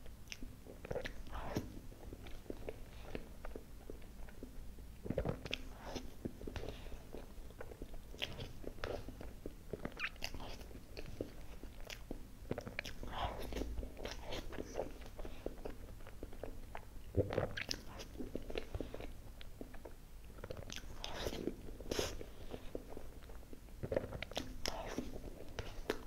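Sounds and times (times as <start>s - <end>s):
chewing mouth sounds: 0.2s - 26.0s.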